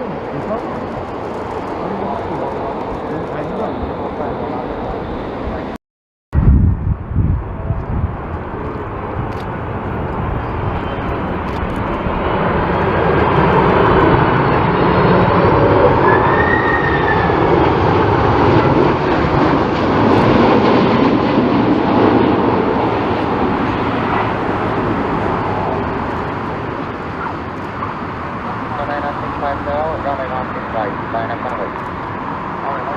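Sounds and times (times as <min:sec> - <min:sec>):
jet engines passing: 0:00.0 - 0:05.8, 0:06.4 - 0:32.9
wind buffeting microphone: 0:00.0 - 0:28.8.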